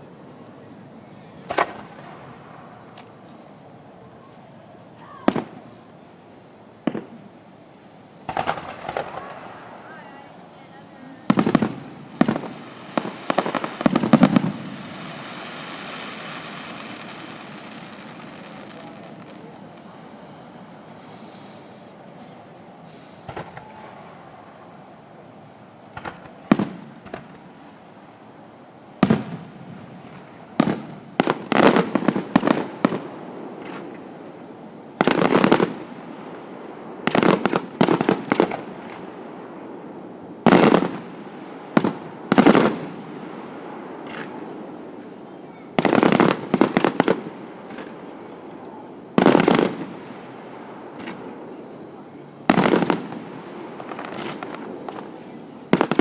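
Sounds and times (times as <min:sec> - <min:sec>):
fireworks banging and crackling: 0:00.0 - 0:56.0.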